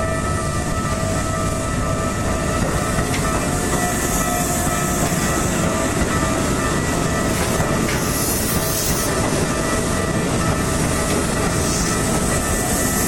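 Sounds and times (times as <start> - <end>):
crossing warning bell ringing: 0.0 - 13.0
train passing: 0.0 - 13.0.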